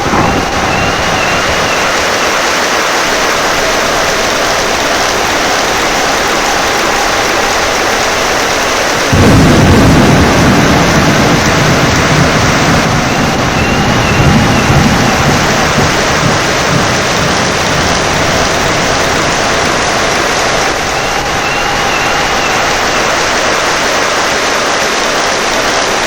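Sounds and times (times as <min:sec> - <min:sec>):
thunder rumbling: 0:00.0 - 0:24.4
heavy rain: 0:00.0 - 0:26.0.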